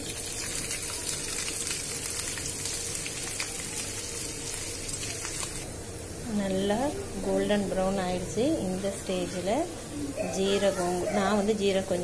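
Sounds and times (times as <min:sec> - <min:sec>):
frying sizzle with crackles: 0:00.0 - 0:12.0.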